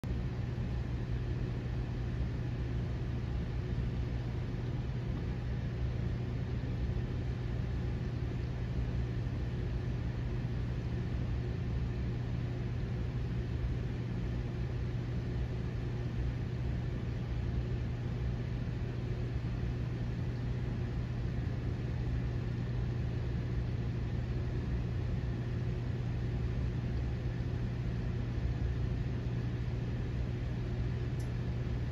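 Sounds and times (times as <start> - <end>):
aquarium pump hum: 0.0 - 31.9.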